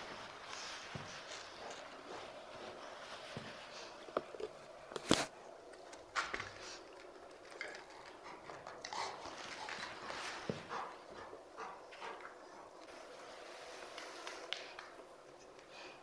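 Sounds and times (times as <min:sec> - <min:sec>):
dogs scuffling and mouthing: 0:00.0 - 0:15.7.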